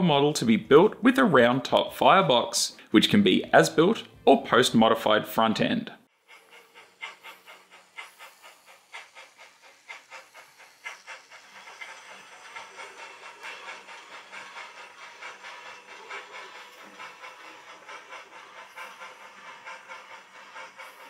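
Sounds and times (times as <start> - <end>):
model train clicking on track: 0.0 - 21.0.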